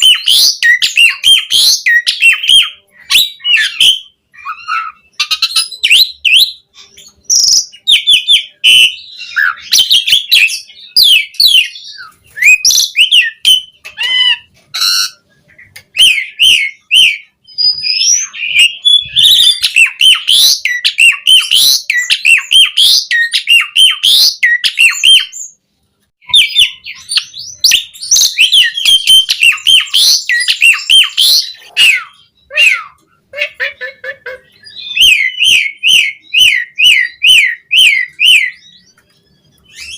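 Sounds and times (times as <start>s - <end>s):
starling singing: 0.0s - 25.6s, 26.2s - 39.9s.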